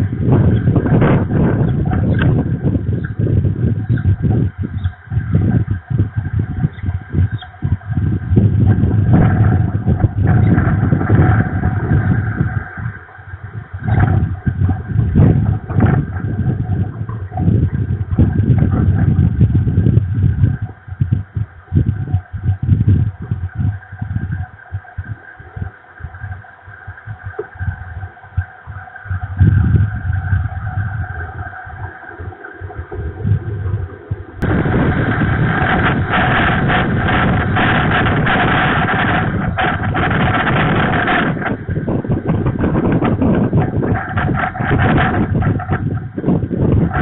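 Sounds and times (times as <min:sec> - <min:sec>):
wind gusting on microphone: 0:00.0 - 0:47.0.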